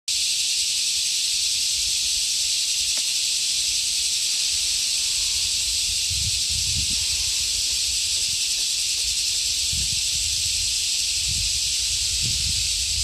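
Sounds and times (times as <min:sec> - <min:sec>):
shrill insect chorus: 0:00.1 - 0:13.0.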